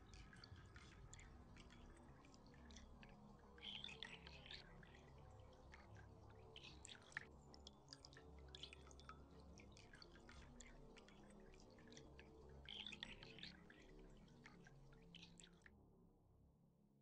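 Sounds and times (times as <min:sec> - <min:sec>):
water dripping: 0:00.0 - 0:15.7.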